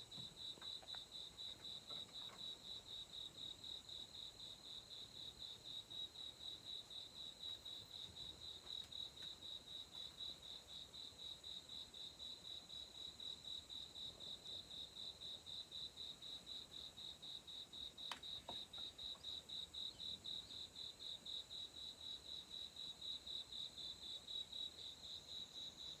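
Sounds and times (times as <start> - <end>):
insect chirping: 0.0 - 26.0.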